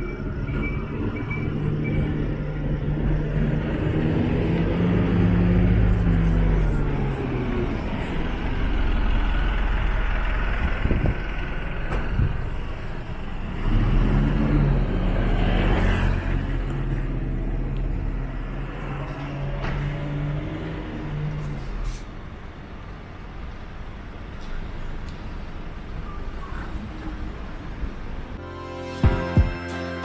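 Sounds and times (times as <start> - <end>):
vehicle engine running: 0.0 - 28.4
bus diesel engine passing: 0.0 - 28.5
street traffic: 0.0 - 30.0.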